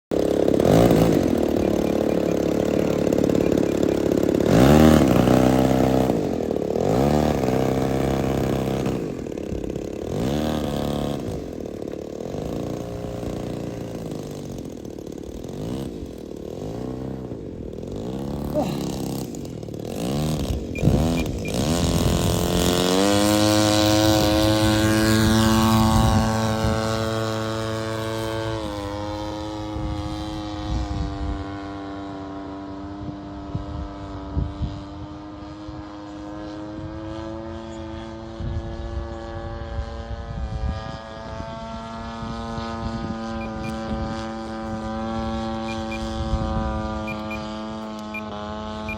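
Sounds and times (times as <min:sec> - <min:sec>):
model plane engine revving: 0:00.1 - 0:48.9.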